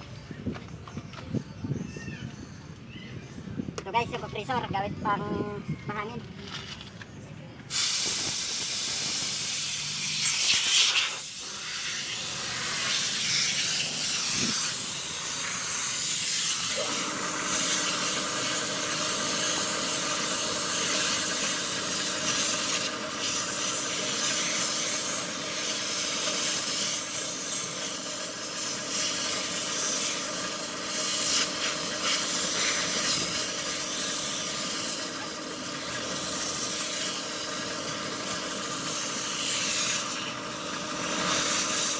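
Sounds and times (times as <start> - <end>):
compressed air hissing from blow gun: 7.7 - 41.9
steady hum: 8.2 - 41.9.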